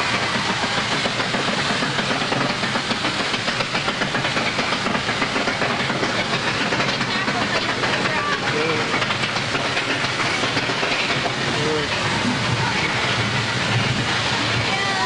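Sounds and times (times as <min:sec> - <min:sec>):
roller coaster rattling on track: 0:00.0 - 0:15.0.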